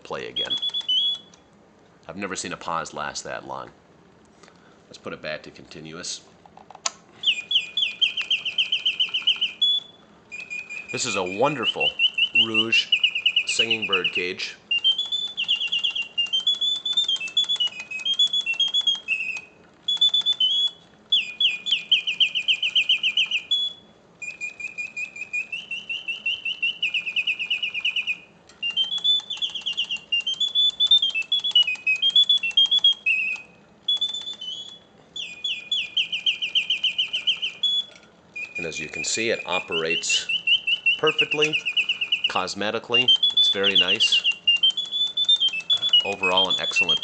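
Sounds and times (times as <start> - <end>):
mechanical birdsong whistles and trills: 0.0 - 1.6, 6.0 - 47.0.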